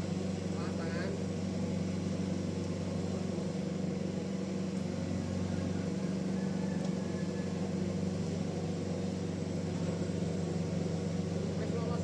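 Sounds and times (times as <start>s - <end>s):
sawmill machinery droning: 0.0s - 12.0s.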